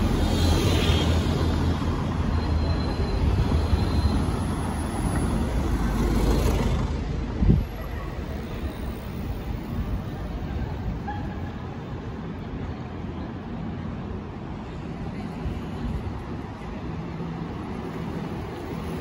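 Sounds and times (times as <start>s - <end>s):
bus engine rumble: 0.0s - 19.0s
traffic noise: 0.0s - 19.0s.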